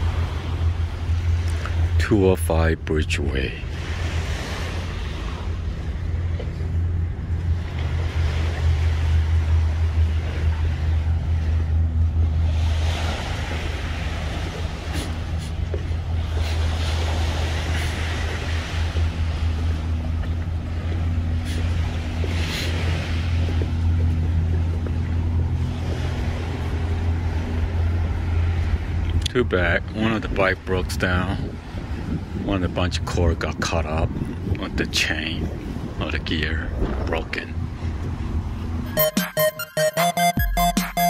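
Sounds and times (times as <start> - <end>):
low mechanical drone: 0.0 - 41.0.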